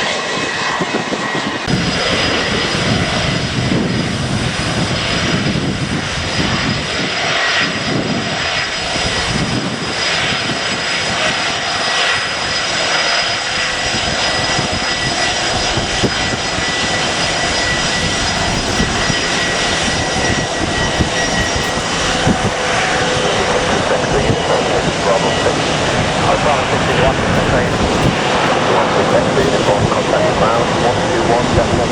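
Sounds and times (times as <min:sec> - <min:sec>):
high steady whine: 0:00.0 - 0:31.9
jet engines roaring: 0:00.0 - 0:31.9
wind buffeting microphone: 0:00.0 - 0:31.9.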